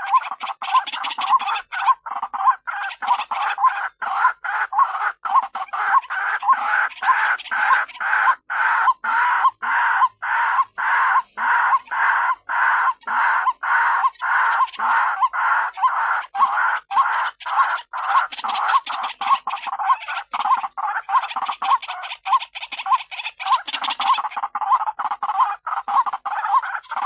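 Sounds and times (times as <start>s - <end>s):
waterhen calling harshly: 0.0s - 27.0s.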